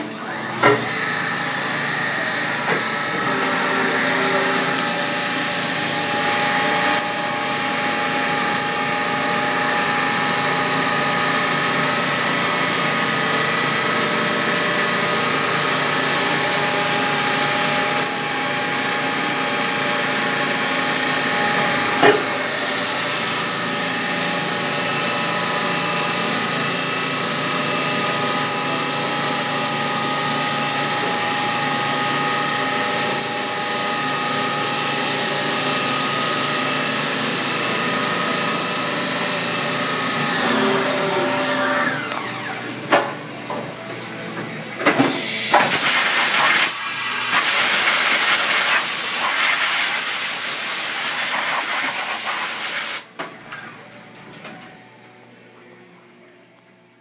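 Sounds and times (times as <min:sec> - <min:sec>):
milling machine whine: 0:00.0 - 0:48.0
coolant hiss: 0:00.5 - 0:53.2.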